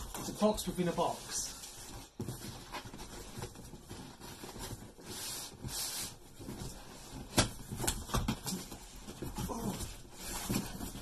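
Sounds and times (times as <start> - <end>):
cardboard scraping and rubbing: 0.0 - 11.0.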